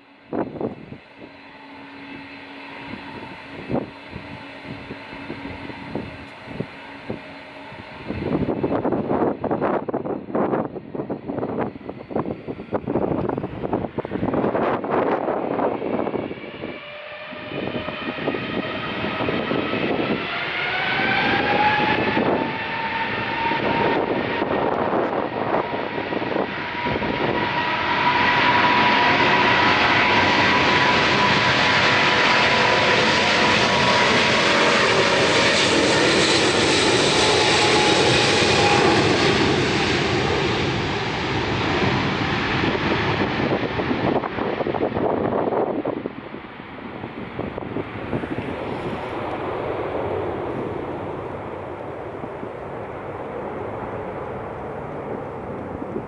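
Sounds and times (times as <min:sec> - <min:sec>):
airliner engines passing: 0:00.0 - 0:56.0.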